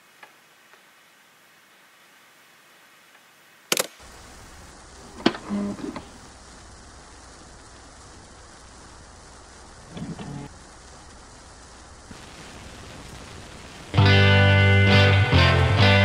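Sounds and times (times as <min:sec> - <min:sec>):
record surface noise and hum: 0:00.0 - 0:16.0.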